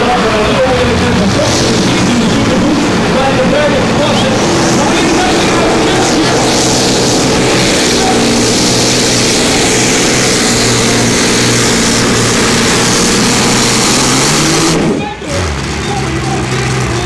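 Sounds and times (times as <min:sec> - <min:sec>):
engine running at high revs: 0:00.0 - 0:17.0.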